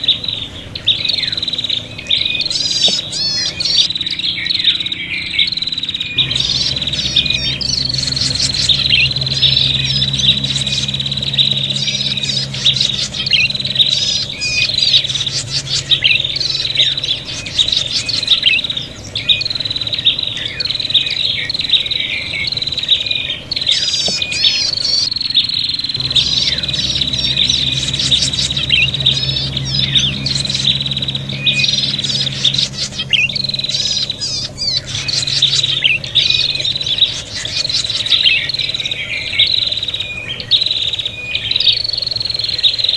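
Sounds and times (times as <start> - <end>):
steady low hum: 0.0 - 42.6
birds trilling and chirping: 0.0 - 42.9.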